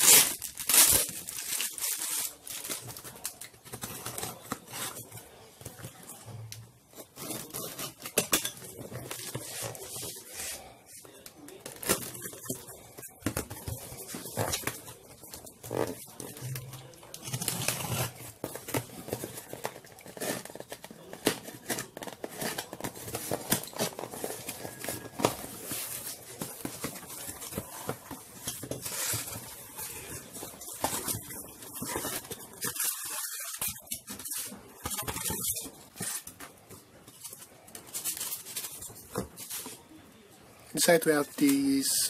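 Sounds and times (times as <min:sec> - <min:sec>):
styrofoam and bubble wrap rustling: 0:00.0 - 0:40.0, 0:40.7 - 0:42.0.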